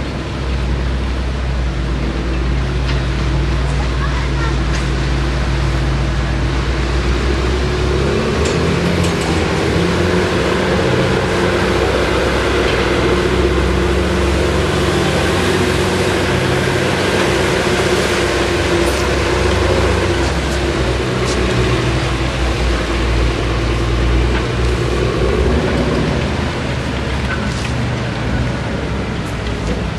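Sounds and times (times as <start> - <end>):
bulldozer diesel engine: 0.0 - 29.9.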